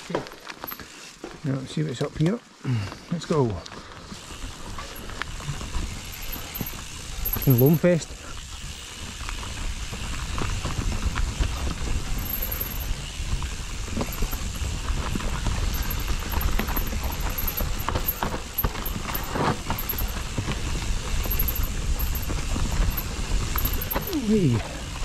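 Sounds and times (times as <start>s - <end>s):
bike tyres rolling on dirt: 0.0s - 25.0s
bike rattling over bumps: 3.7s - 25.0s.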